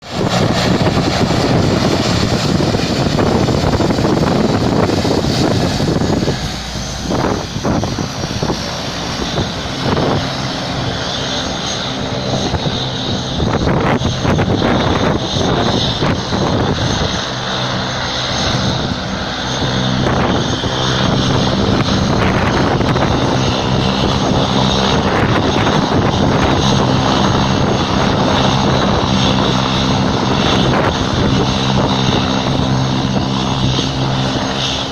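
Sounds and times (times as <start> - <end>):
propeller plane engine droning: 0.0 - 34.9.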